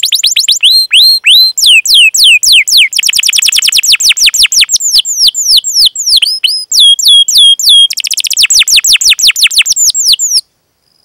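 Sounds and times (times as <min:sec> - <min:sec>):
canary singing: 0:00.0 - 0:10.5.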